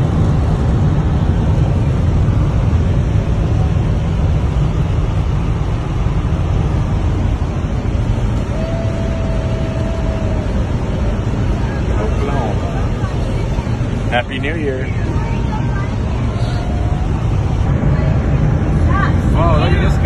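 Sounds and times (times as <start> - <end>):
road and engine noise in truck cab: 0.0 - 20.0.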